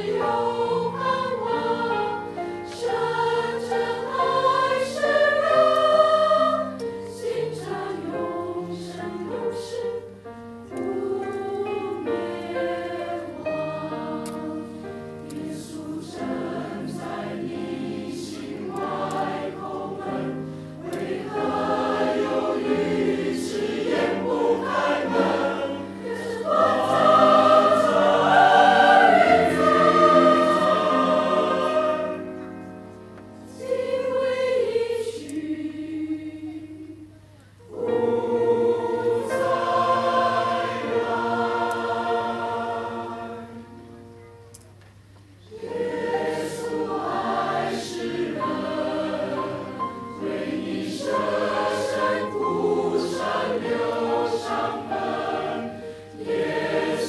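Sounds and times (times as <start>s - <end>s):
mixed choir singing in harmony: 0.0s - 44.1s, 45.4s - 57.0s.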